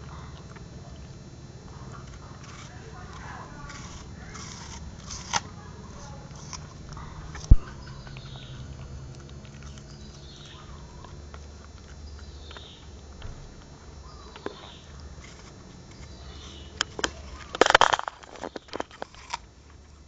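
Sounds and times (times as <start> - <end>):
dog chewing apple: 0.0 - 20.0.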